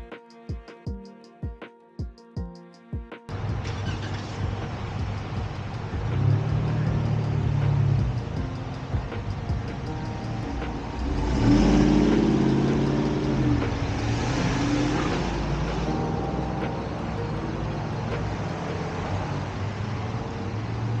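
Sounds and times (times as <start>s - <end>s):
engine accelerating: 3.3s - 21.0s
engines running: 3.3s - 21.0s
vehicle passing: 3.3s - 21.0s.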